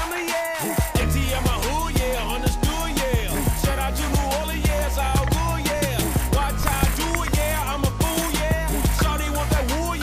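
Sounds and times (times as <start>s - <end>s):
hip hop music: 0.0s - 10.0s.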